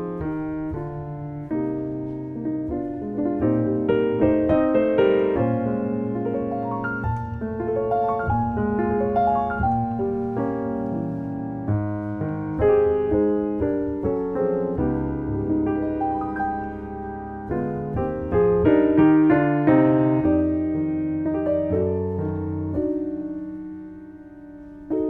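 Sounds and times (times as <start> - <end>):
jazz piano: 0.0 - 25.0.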